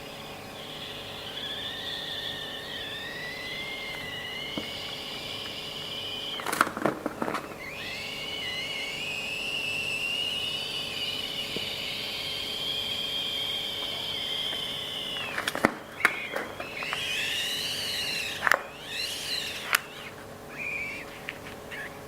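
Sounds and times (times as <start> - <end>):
air squealing from balloon neck: 0.0 - 22.0
sharp clicks: 0.0 - 22.0.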